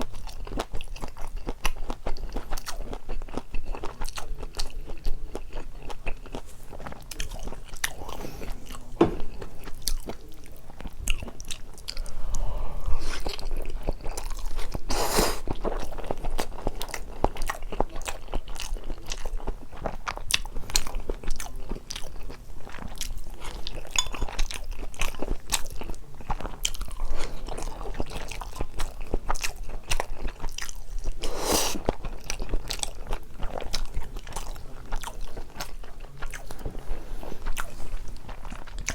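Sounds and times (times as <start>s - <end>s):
person chewing noodles: 0.0s - 38.9s.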